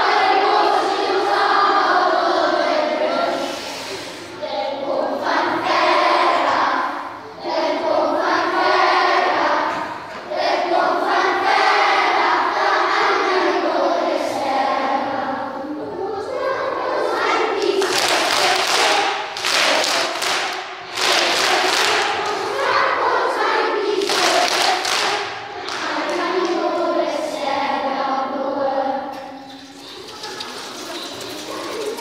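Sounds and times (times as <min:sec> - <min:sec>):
children singing in unison: 0:00.0 - 0:32.0.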